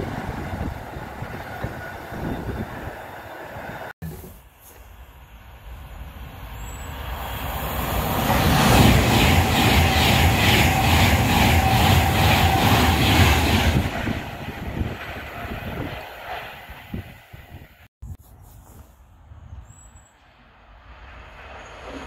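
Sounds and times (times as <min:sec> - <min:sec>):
passenger train passing at speed: 0:00.0 - 0:04.0, 0:05.0 - 0:17.9, 0:20.2 - 0:22.0.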